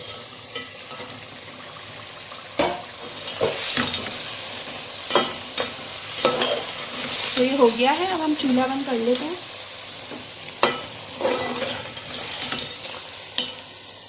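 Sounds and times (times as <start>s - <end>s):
curry sizzling: 0.0s - 14.0s.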